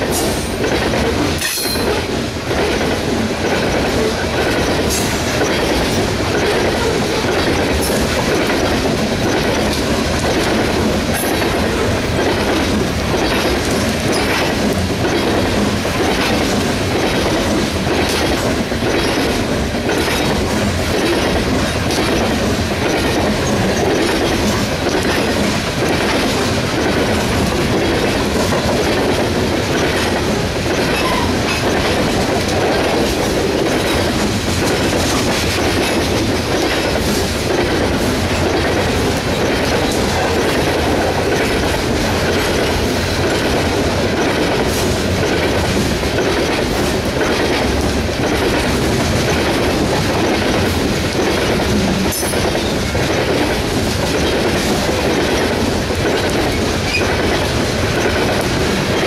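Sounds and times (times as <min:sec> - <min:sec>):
clickety-clack of wheels: 0:00.0 - 0:59.0
train wheels rumbling on rails: 0:00.0 - 0:59.0.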